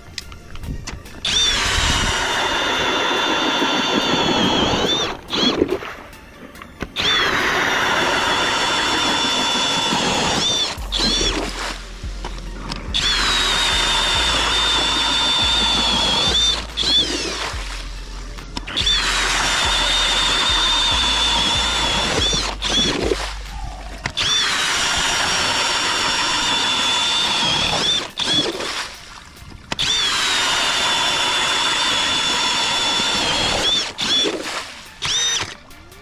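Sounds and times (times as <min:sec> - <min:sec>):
cordless drill motor whine: 0:01.2 - 0:05.7, 0:07.0 - 0:28.5, 0:29.8 - 0:34.4, 0:35.0 - 0:35.6.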